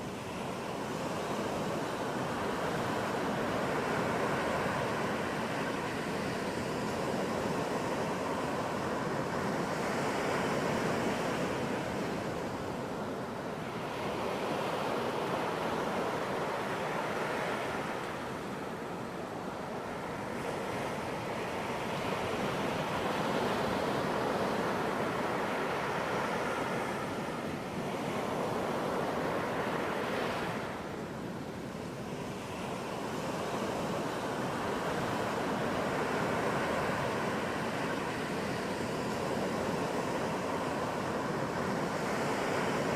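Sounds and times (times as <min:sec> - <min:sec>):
ocean waves breaking on beach: 0:00.0 - 0:42.9.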